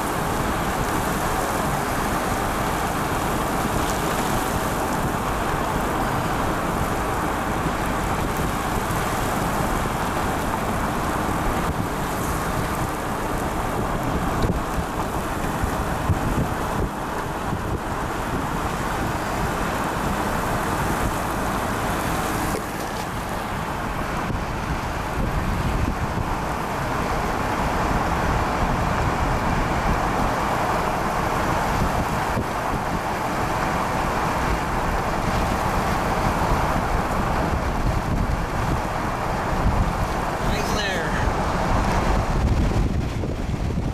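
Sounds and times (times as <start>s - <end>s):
vehicle road and wind noise: 0.0s - 43.9s.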